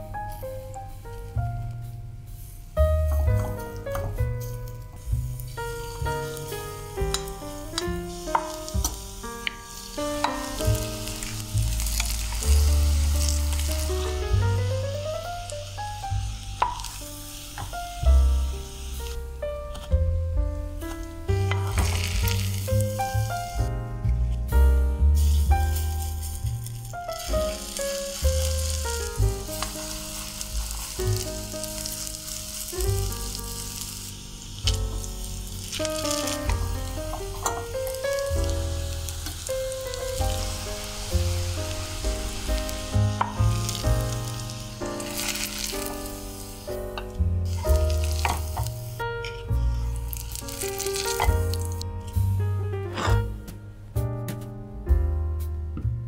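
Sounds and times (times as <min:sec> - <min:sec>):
fritters sizzling in oil: 0:00.0 - 0:23.7, 0:24.4 - 0:52.4
background music with bass: 0:00.0 - 0:56.0.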